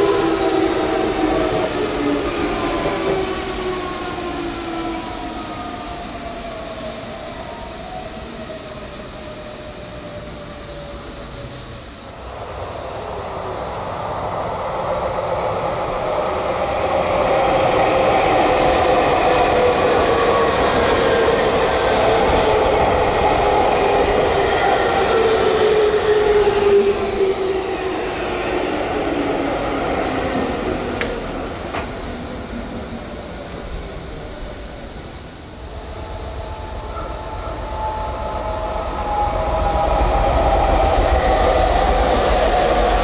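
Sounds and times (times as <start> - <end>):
train rail noise: 0.0 - 43.0.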